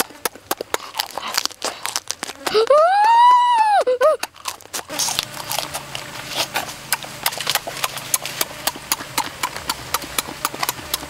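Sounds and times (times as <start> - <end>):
open-mouthed chewing: 0.0 - 2.8, 3.9 - 11.0.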